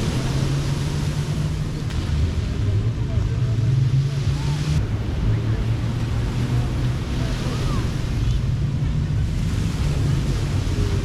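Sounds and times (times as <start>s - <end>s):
surf: 0.0s - 11.0s
wind: 0.0s - 11.0s
wind rumble on microphone: 0.0s - 11.0s.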